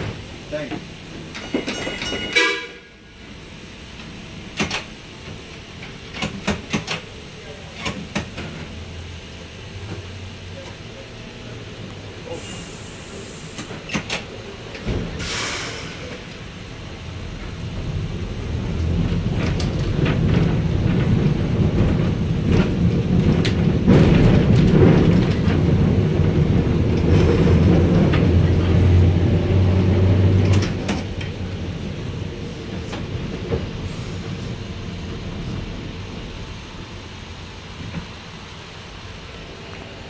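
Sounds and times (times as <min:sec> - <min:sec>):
streetcar motor hum: 0:00.0 - 0:40.0
streetcar wheel noise: 0:00.0 - 0:40.0.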